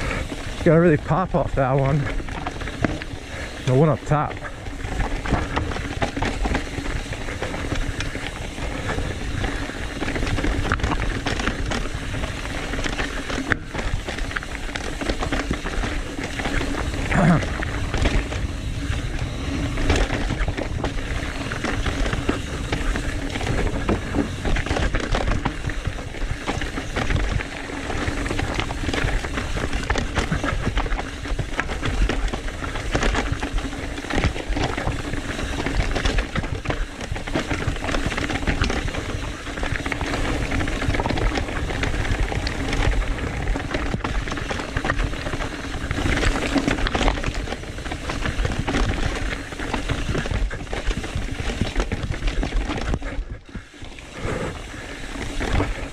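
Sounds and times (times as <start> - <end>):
bike rattling over rocks: 0.0 - 55.9
wind rumble on microphone: 0.0 - 55.9.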